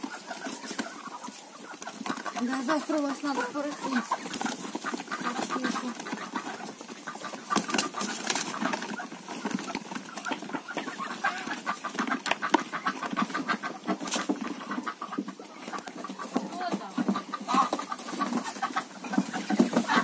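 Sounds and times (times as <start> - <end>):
birds scuffling on wood: 0.0 - 20.0
hens clucking: 0.0 - 20.0.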